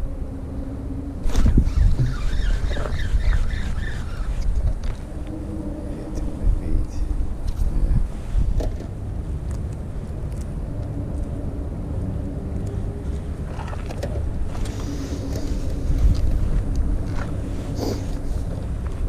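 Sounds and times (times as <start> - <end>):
faint steady hum: 0.0 - 19.0
wind buffeting microphone: 0.0 - 19.0.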